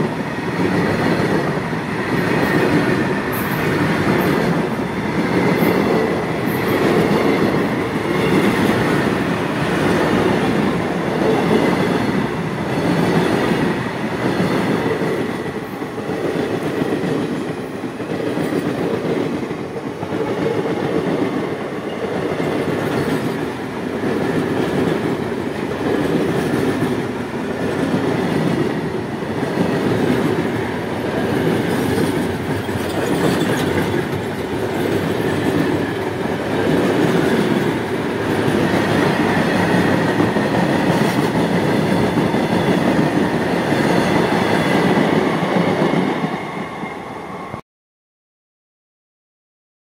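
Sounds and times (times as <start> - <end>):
train wheels clattering on rails: 0.0 - 46.6.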